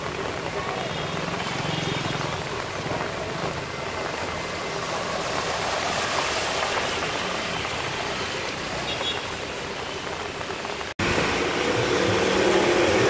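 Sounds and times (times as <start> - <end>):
steady rain: 0.0 - 13.0
tyres splashing through water: 0.0 - 13.0.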